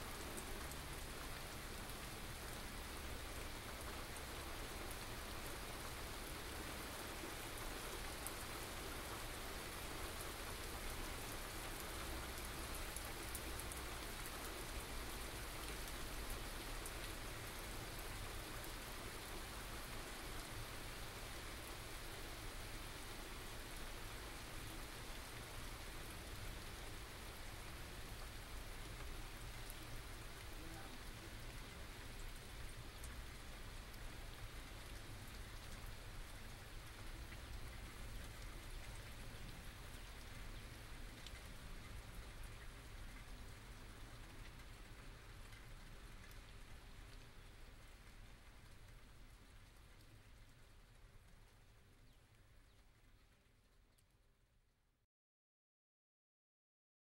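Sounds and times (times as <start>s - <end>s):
steady rain: 0.0s - 54.8s.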